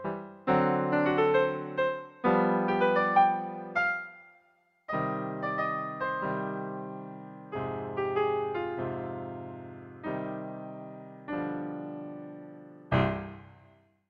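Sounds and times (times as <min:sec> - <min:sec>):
solo piano music: 0:00.0 - 0:13.9.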